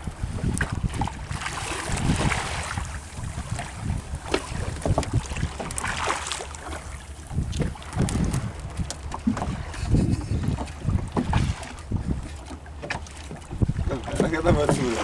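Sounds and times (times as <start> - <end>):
waves slapping against boat hull: 0.0 - 15.0
wind buffeting microphone: 0.0 - 15.0.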